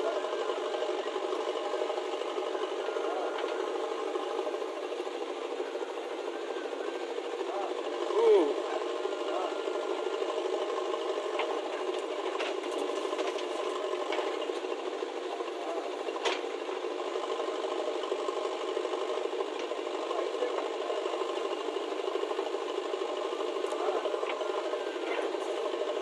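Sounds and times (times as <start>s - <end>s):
rattling machine running: 0.0s - 26.0s.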